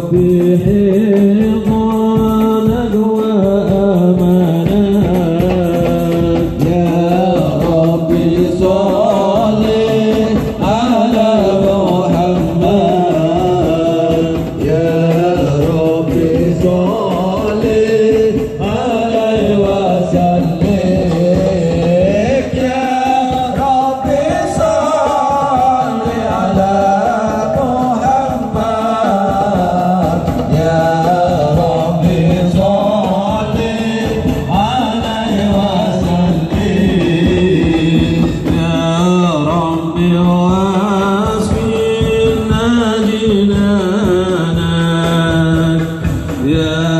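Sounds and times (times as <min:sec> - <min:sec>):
fast hand drumming: 0:00.0 - 0:46.9
men singing devotional song: 0:00.0 - 0:46.9.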